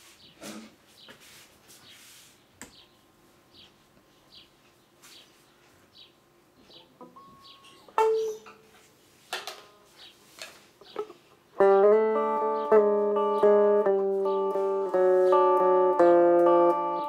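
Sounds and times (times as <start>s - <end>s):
small birds chirping: 0.1s - 9.2s, 9.9s - 17.0s.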